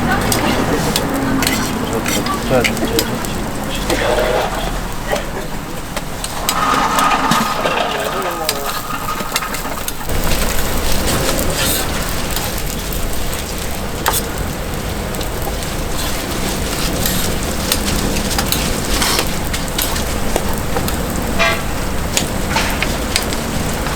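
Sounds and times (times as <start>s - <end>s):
cooking tools clicking and tapping: 0.0s - 23.9s
pancakes sizzling in oil: 0.0s - 23.9s.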